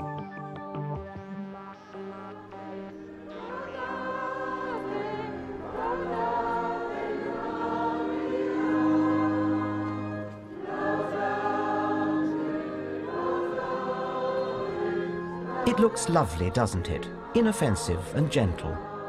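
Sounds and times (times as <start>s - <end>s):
crowd singing a hymn: 2.4s - 19.0s.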